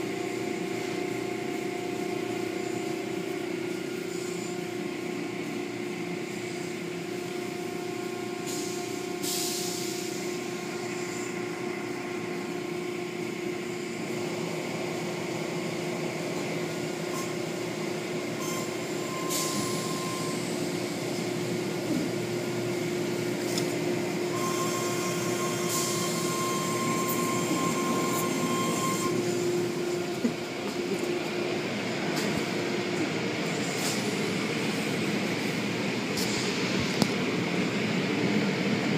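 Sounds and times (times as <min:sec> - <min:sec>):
car wash machinery hum: 0:00.0 - 0:38.9.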